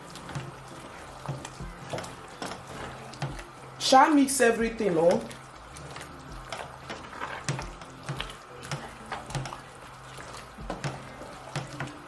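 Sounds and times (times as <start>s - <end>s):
spoon stirring and scraping pot: 0.0s - 3.8s, 4.6s - 12.0s.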